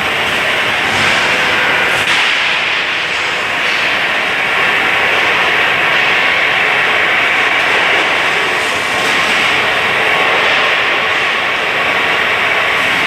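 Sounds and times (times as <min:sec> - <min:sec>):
running machinery rushing noise: 0:00.0 - 0:13.0.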